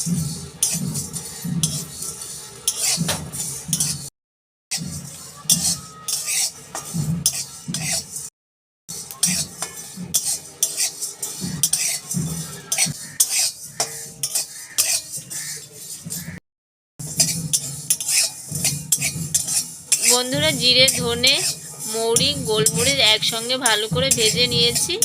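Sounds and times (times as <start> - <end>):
spatula scraping spices in pan: 0.0 - 4.1, 4.7 - 8.3, 8.9 - 16.4, 17.0 - 25.0.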